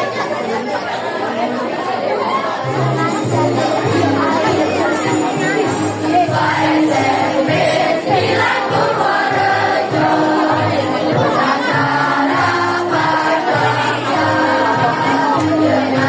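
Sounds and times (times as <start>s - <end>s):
children's choir singing: 0.0s - 16.0s
accompaniment with steady beat: 2.6s - 16.0s.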